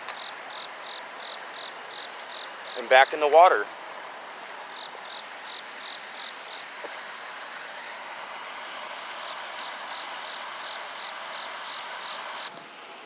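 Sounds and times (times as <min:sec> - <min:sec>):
crickets chirping: 0:00.0 - 0:03.0, 0:03.6 - 0:12.5
steady rushing hiss: 0:00.0 - 0:13.0.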